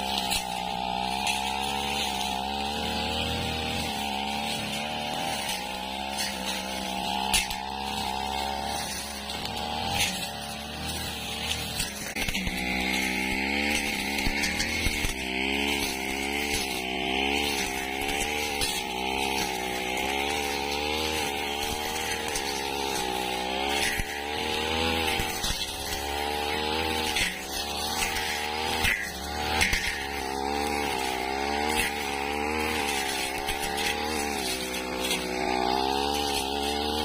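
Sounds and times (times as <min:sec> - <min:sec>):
brush cutter engine at high revs: 0:00.0 - 0:37.0.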